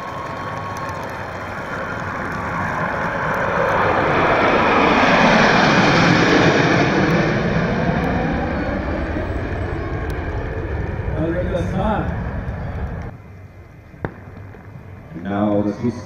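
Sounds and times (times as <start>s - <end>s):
fighter jets flying past: 0.0s - 16.0s.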